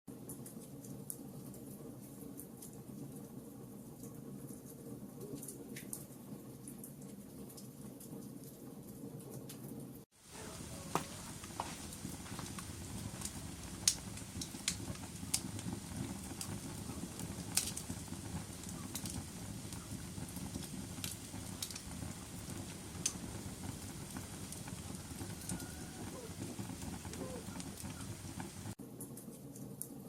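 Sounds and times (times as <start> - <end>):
fire pops and crackles: 0.1 - 30.0
rumble of fire flames: 0.2 - 30.0.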